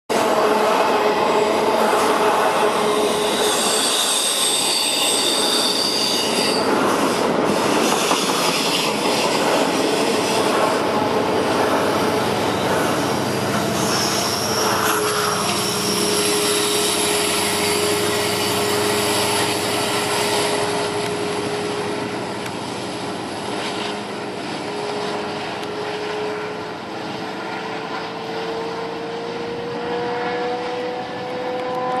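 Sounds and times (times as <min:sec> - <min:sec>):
freight train wheels rumbling: 0:00.1 - 0:31.4.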